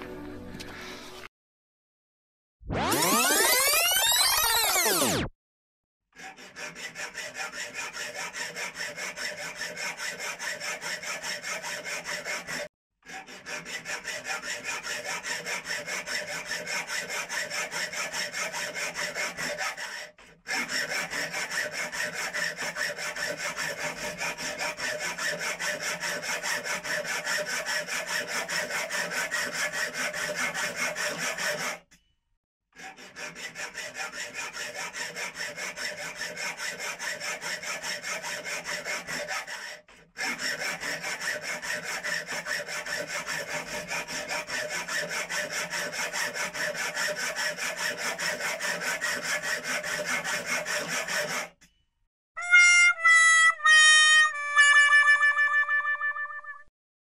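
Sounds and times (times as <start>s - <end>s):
circular saw cutting plastic: 2.7s - 5.3s, 6.1s - 32.0s, 32.7s - 51.8s.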